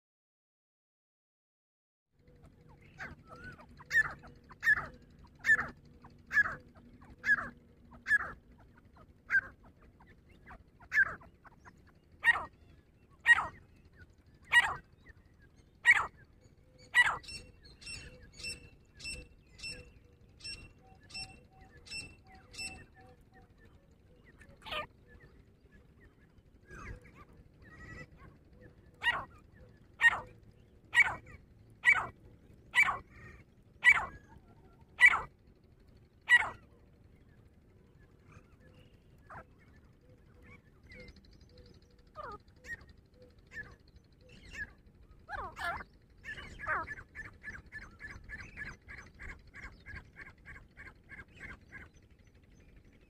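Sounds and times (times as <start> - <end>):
fast run of short bird notes: 2.2 - 53.0.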